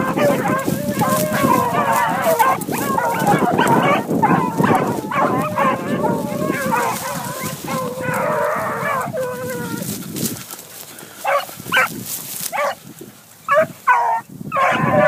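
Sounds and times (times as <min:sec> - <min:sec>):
dogs barking: 0:00.0 - 0:09.9, 0:11.2 - 0:11.9, 0:12.5 - 0:12.8, 0:13.5 - 0:15.0
hounds baying: 0:00.0 - 0:12.8, 0:13.4 - 0:15.0
rustling of dry brush: 0:00.0 - 0:14.1.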